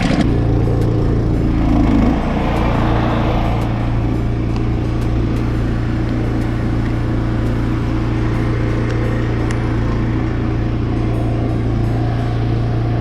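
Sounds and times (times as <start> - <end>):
pressure washer engine droning: 0.0 - 13.0.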